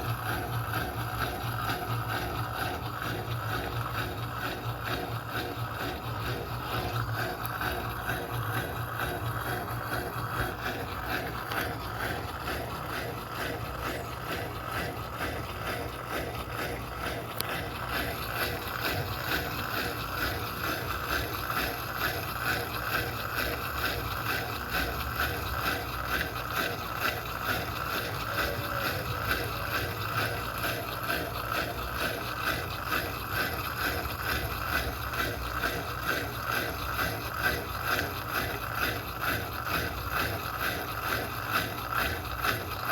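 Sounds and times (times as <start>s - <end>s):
washing machine hum: 0.0s - 42.9s
washing machine rhythmic pulse: 0.0s - 42.9s.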